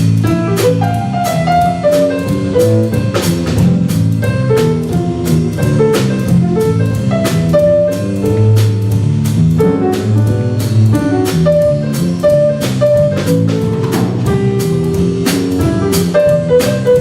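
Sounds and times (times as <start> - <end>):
bass line: 0.0 - 17.0
drum kit keeping time: 0.0 - 17.0
jazz ensemble playing swing: 0.0 - 17.0.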